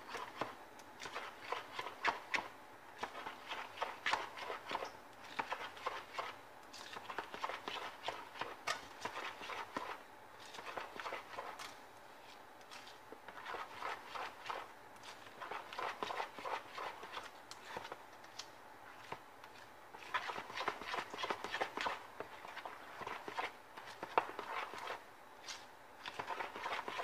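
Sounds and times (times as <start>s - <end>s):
utensil stirring in a bowl: 0.0s - 27.0s.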